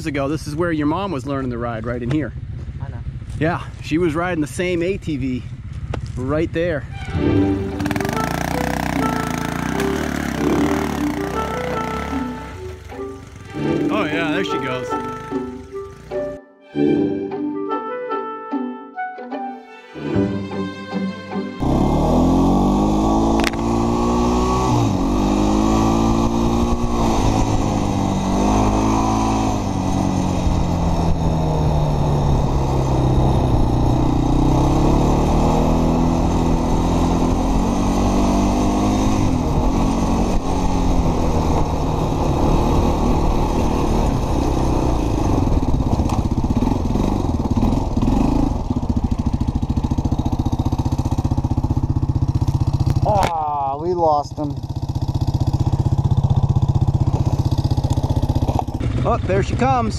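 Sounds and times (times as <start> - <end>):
off-road vehicle engine revving: 5.6 - 15.6, 21.6 - 59.9.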